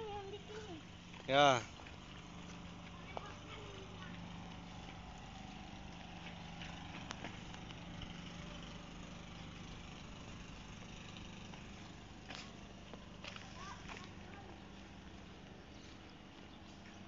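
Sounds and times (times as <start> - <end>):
diesel locomotive engine idling: 0.0 - 17.0.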